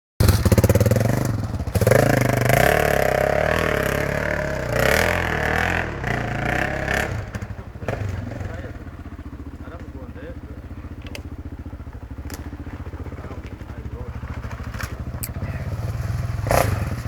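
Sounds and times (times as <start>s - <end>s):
dirt bike engine revving: 0.2s - 17.0s.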